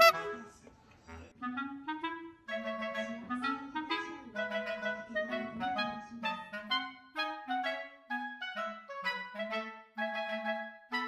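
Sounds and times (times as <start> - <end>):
light background melody: 0.0 - 11.0.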